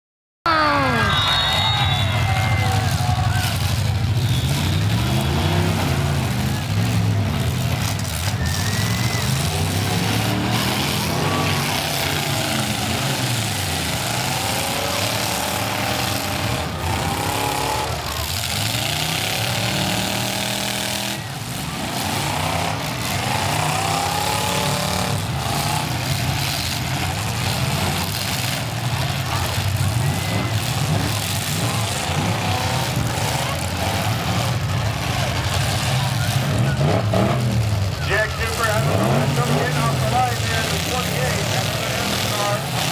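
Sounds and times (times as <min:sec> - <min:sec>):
car engines revving roughly: 0:01.9 - 0:42.9.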